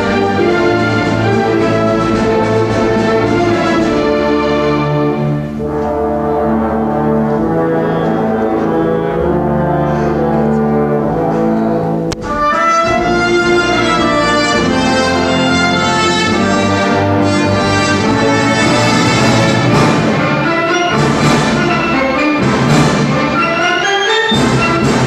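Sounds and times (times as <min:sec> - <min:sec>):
orchestra strings playing chords: 0:00.0 - 0:25.0.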